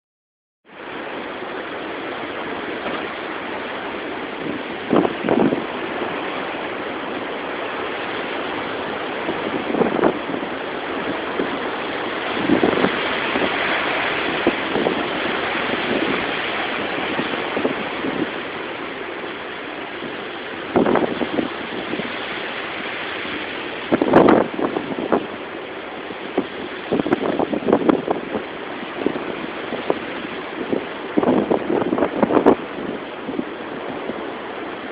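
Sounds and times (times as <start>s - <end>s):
rain: 0.7s - 34.9s
storm wind: 0.7s - 34.9s.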